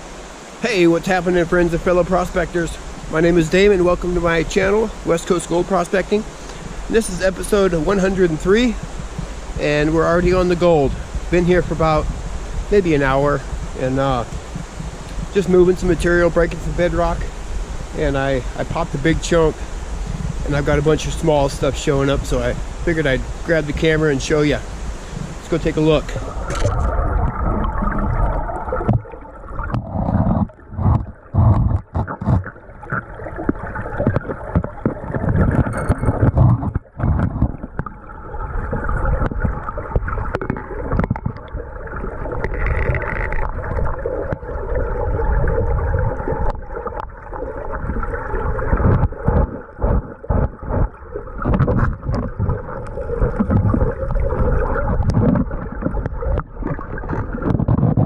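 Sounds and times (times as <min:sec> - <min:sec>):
muffled underwater creek water: 0:00.0 - 0:58.0.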